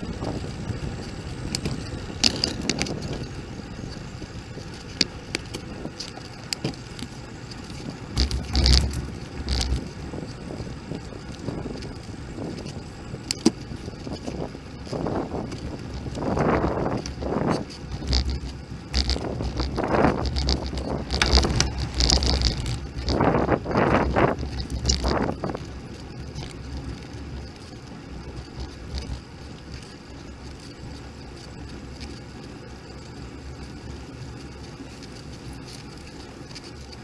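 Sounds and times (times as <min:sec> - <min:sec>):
wind buffeting microphone: 0:00.0 - 0:34.5
bicycle rattling and clicking: 0:00.0 - 0:37.0.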